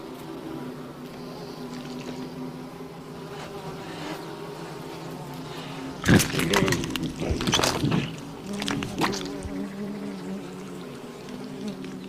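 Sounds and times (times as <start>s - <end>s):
low buzzing hum: 0.0s - 12.0s.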